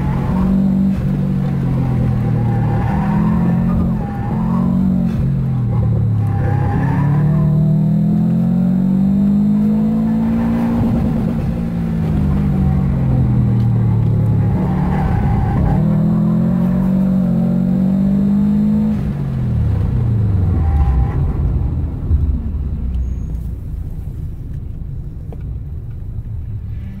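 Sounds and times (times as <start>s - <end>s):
car engine revving in cabin: 0.0s - 24.4s.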